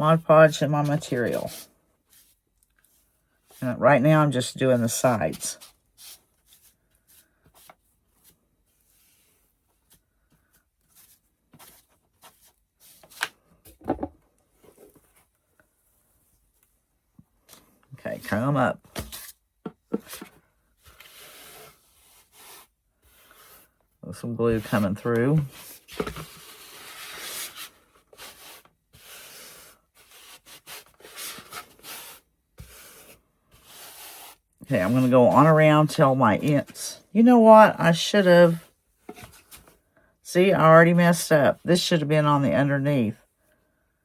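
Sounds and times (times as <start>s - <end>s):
rustles of crafting material: 0.0s - 37.6s, 38.3s - 39.9s.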